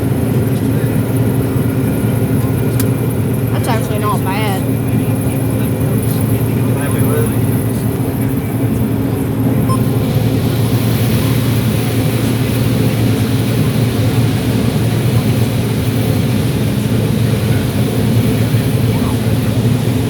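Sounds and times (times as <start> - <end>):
combine harvester droning: 0.0 - 20.0.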